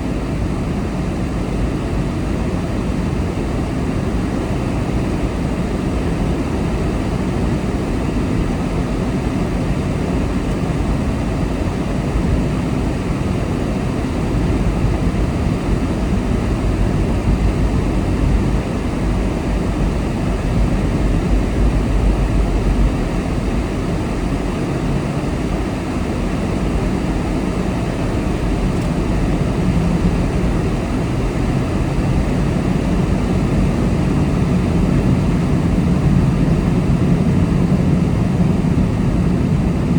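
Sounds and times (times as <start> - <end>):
car engine and road rumble: 4.0 - 39.9.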